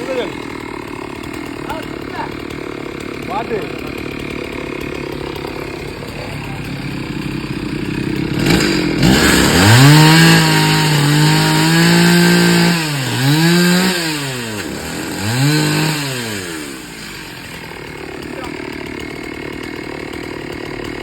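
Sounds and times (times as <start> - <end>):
two-stroke chainsaw revving: 0.0 - 21.0.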